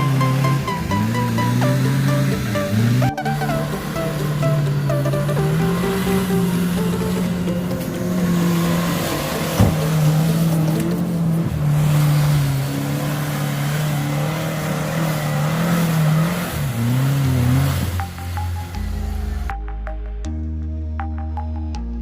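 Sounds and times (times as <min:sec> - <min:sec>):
engine running under load: 0:00.0 - 0:19.5.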